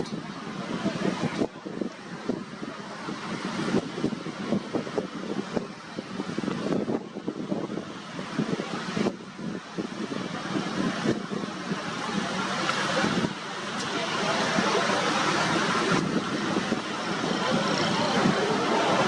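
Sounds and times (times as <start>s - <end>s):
engine noise: 0.0s - 19.0s.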